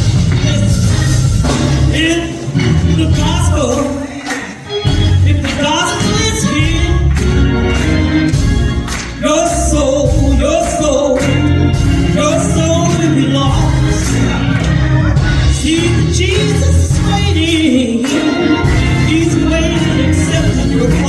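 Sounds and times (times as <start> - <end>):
bass guitar: 0.0 - 4.0, 4.8 - 21.0
drums: 0.0 - 21.0
gospel singing: 0.0 - 21.0.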